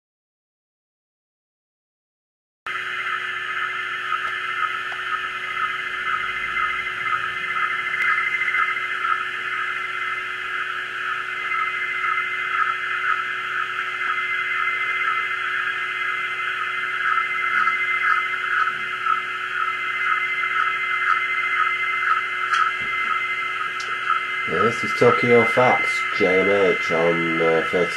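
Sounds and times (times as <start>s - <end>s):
radio band noise hiss: 2.7s - 27.9s.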